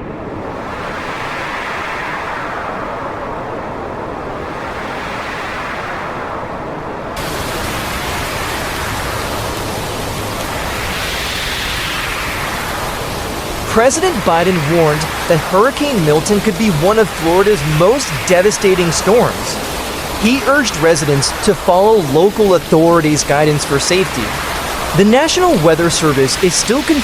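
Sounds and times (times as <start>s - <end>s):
hurricane wind and rain: 0.0s - 27.0s.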